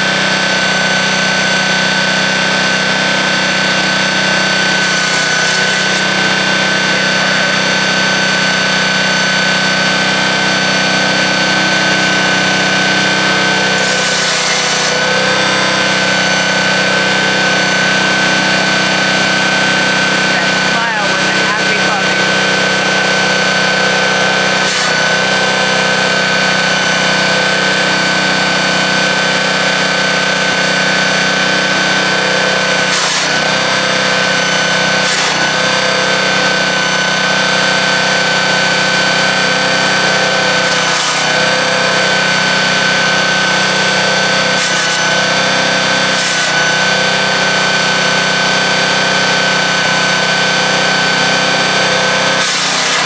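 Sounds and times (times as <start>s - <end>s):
wood chipper whining: 0.0s - 53.0s.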